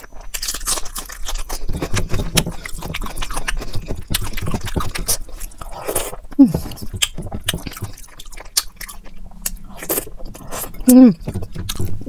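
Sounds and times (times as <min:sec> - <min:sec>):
wet chewing with mouth clicks: 0:00.0 - 0:12.0.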